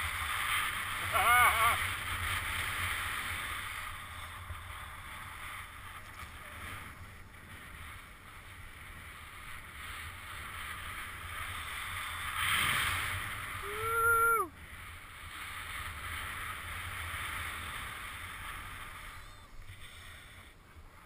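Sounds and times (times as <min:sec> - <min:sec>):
snowboard hissing on snow: 0:00.0 - 0:05.9, 0:06.7 - 0:21.0.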